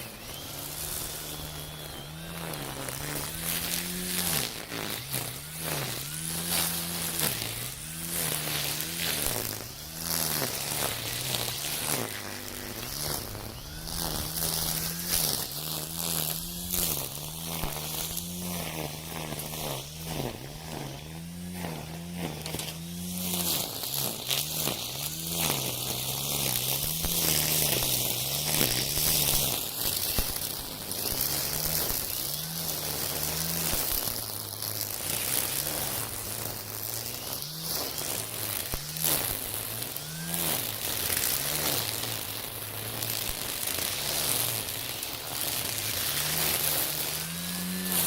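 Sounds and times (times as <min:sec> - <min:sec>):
brush cutter motor whine: 0:00.0 - 0:48.0
nylon line whipping through stems: 0:00.7 - 0:48.0.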